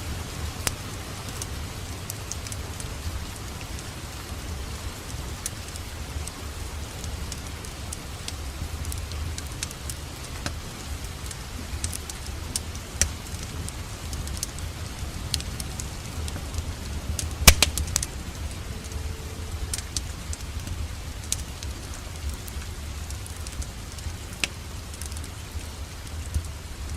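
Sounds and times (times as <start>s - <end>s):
rain hissing: 0.0s - 26.9s
wood fire crackling and popping: 0.0s - 26.9s.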